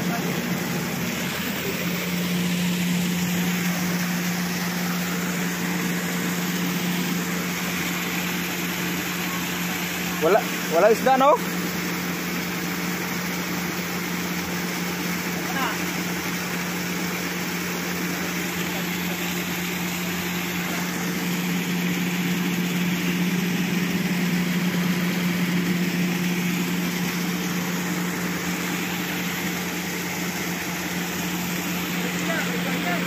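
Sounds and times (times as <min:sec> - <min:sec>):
excavator diesel engine idling: 0:00.0 - 0:33.0
water gushing: 0:00.0 - 0:33.0.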